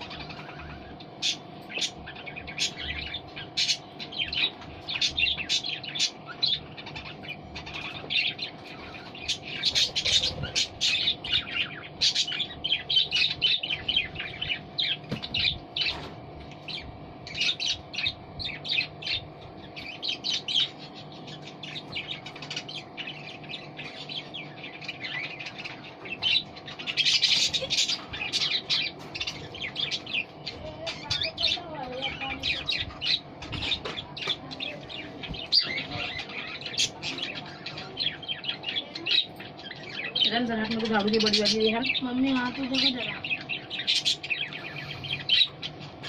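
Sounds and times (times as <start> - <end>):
budgerigars chirping: 0.0 - 46.0.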